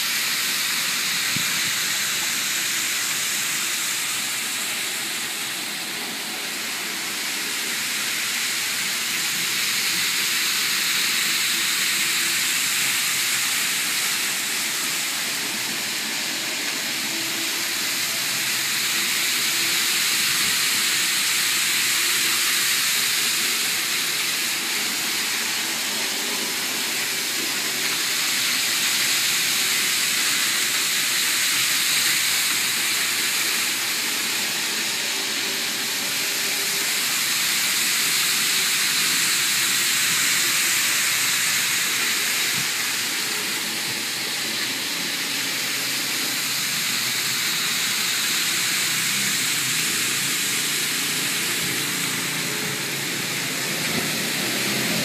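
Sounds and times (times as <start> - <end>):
model train motors whirring: 0.0 - 55.0.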